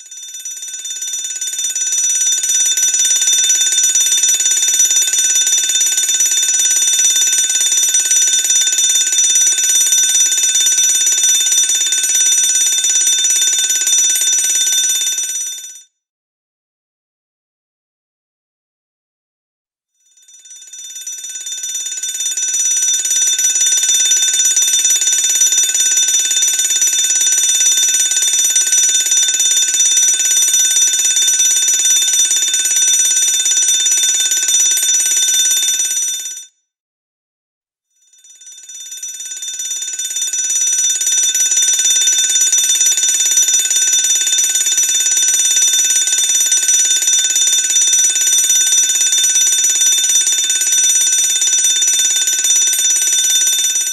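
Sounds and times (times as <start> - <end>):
fire alarm bell ringing: 0.0 - 15.8, 20.2 - 36.5, 38.2 - 53.9.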